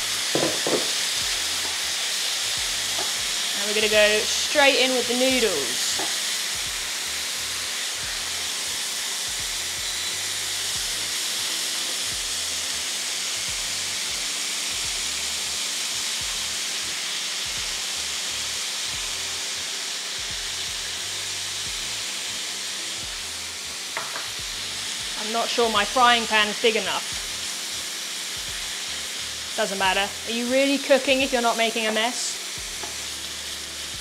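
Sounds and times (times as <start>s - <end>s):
stir-fry sizzling in pan: 0.0s - 34.0s.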